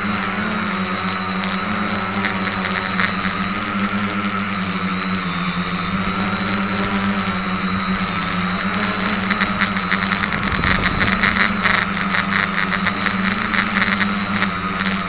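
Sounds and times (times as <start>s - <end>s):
drone propellers humming: 0.0s - 15.0s
rapid crackling ticking: 0.0s - 15.0s.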